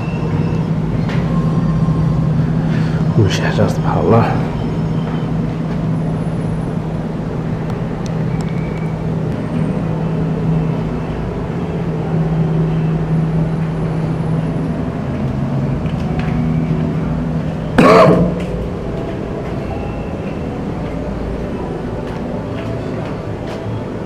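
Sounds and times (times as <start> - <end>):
low mechanical hum: 0.0 - 24.0
noisy background: 0.0 - 24.0.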